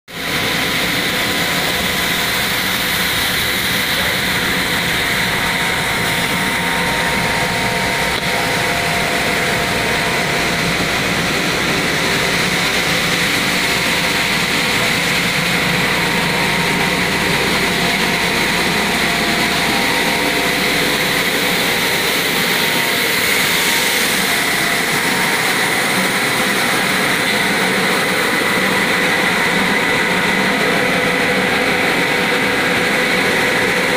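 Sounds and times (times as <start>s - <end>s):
high machine whine: 0.1s - 33.9s
recycling machine droning: 0.1s - 33.9s.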